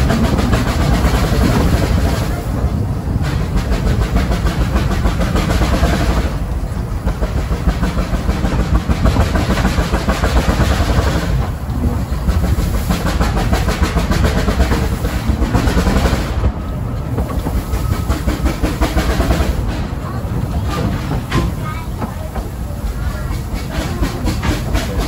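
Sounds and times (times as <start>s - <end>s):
steam locomotive working: 0.0s - 25.0s
wheels clattering on rails: 0.0s - 25.0s.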